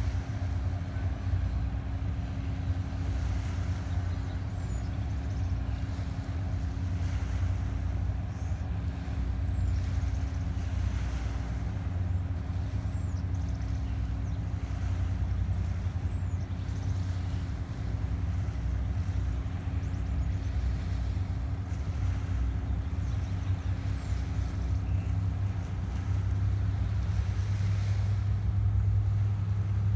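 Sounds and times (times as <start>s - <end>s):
boat engine droning: 0.0s - 29.9s.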